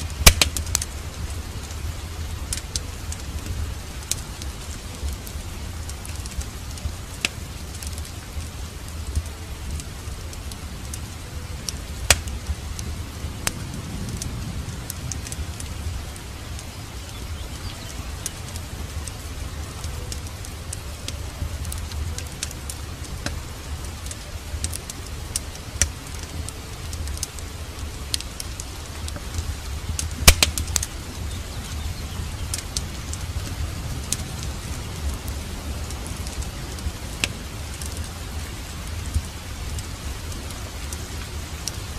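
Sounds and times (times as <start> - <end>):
sharp fire pops: 0.0 - 41.8
fireplace wood crackling: 0.0 - 41.9
steady rain: 0.0 - 41.9.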